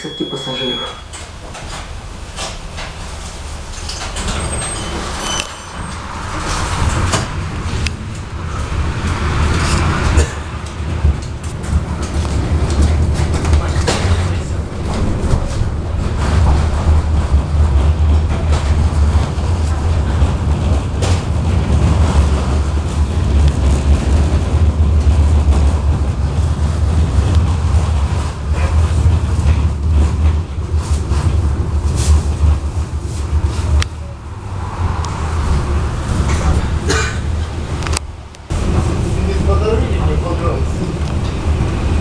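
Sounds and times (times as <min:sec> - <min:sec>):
tram rumbling on rails: 0:00.0 - 0:42.0.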